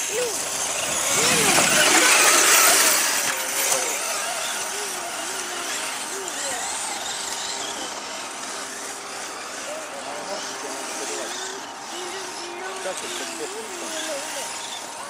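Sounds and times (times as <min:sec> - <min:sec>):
model truck motor revving: 0:00.0 - 0:15.0.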